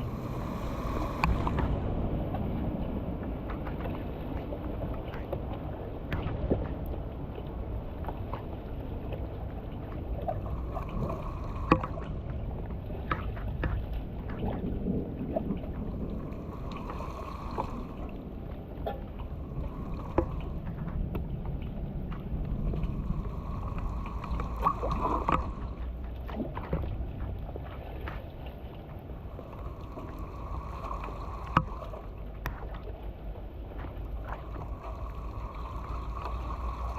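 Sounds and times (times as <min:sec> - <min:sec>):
water flowing and splashing: 0:00.0 - 0:36.9.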